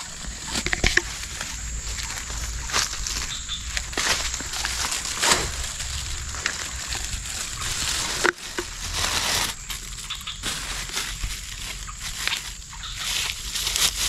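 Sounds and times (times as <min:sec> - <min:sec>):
dry plant material crackling: 0:00.0 - 0:14.0.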